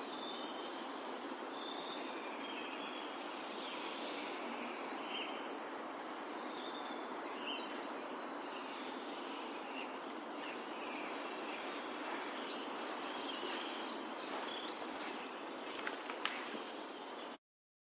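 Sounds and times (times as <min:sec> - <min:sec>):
distant birds chirping: 0:00.0 - 0:17.4.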